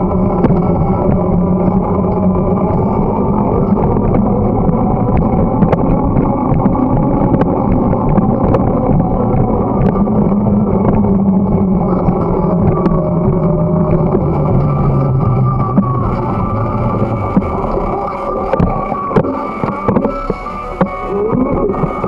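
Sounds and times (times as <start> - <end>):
bicycle tyre rumble: 0.0 - 22.0
wind rush on microphone: 0.0 - 22.0.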